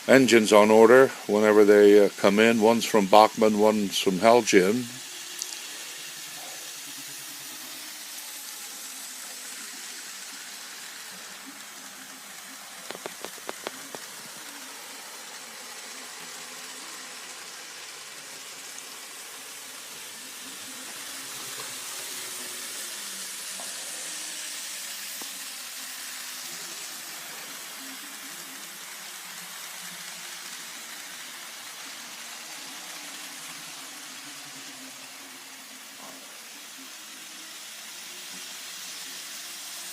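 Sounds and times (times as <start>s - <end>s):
model train running: 0.0s - 39.9s.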